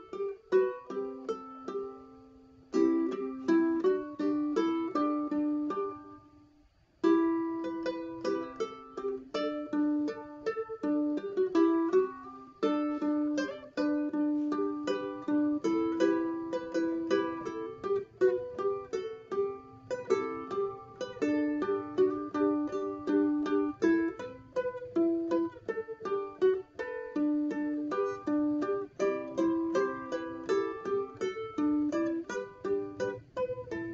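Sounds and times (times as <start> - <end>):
ukulele melody: 0.0 - 33.9.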